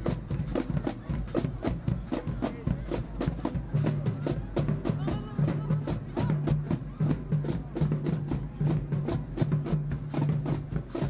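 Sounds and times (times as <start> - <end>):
rapid drum strokes: 0.0 - 11.0.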